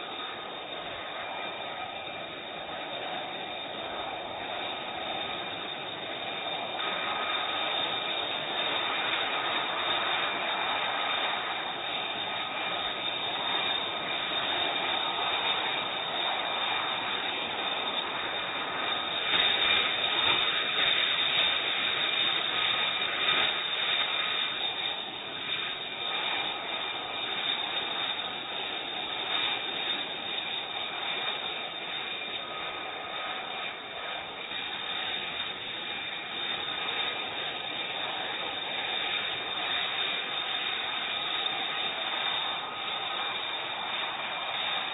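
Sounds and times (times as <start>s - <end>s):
jet engine whine and rush: 0.0s - 44.9s.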